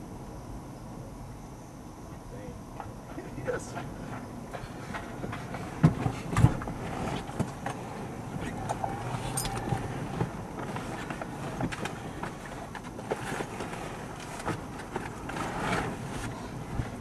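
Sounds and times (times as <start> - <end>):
wind noise: 1.4 - 17.0.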